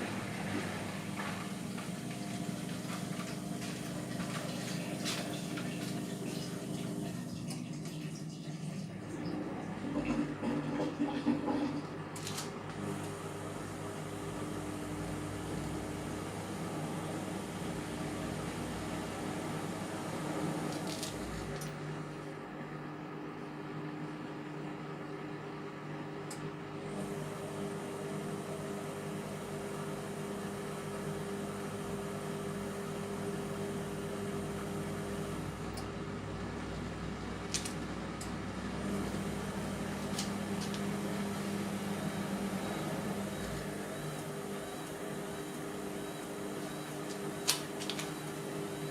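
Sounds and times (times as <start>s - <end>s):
washing machine motor hum: 0.0s - 48.9s.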